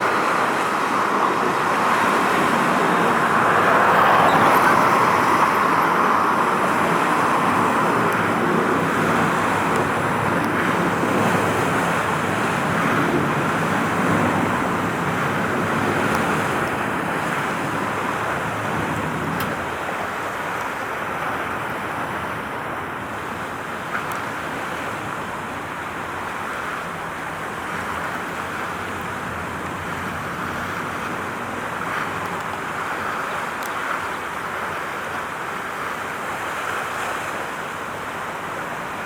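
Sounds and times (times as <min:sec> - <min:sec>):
road traffic hiss: 0:00.0 - 0:39.0.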